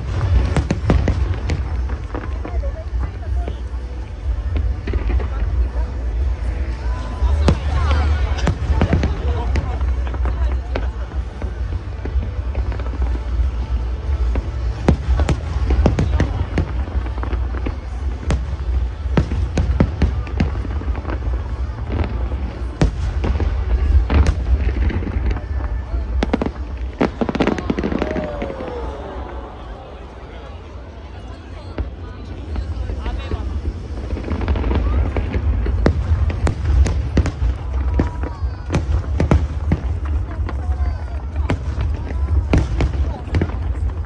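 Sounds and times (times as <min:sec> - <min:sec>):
fireworks bursting with sharp bangs: 0:00.0 - 0:44.0.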